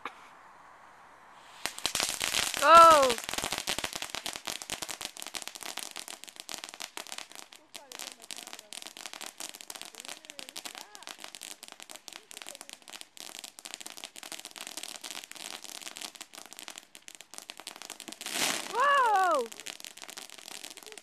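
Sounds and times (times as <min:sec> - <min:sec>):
firework crackling: 0:01.3 - 0:21.0.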